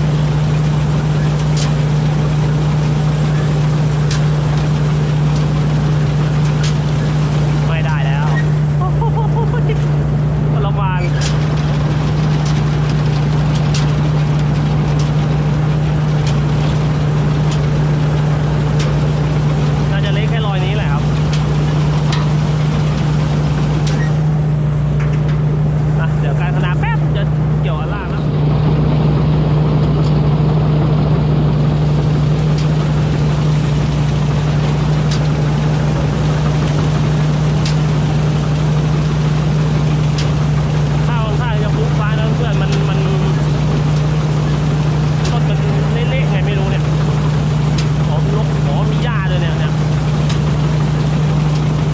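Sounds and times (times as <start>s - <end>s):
harvester engine humming: 0.0s - 51.9s.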